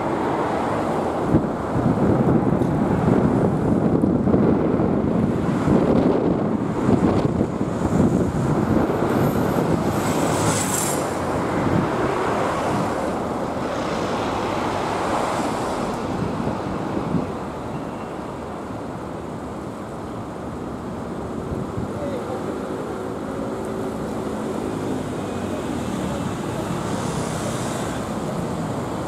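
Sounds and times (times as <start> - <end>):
car passing: 0.0 - 29.0
wind rumbling on microphone: 0.0 - 29.0.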